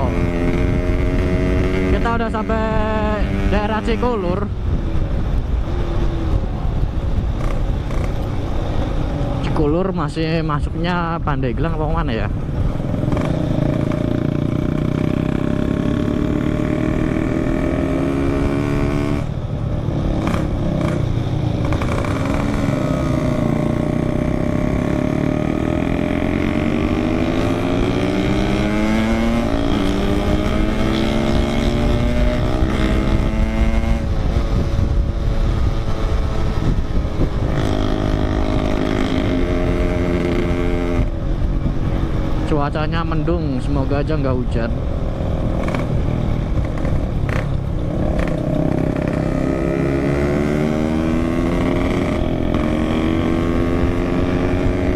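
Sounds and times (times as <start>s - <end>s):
two-stroke motorcycle engine revving: 0.0s - 4.4s, 7.3s - 9.2s, 12.7s - 54.9s.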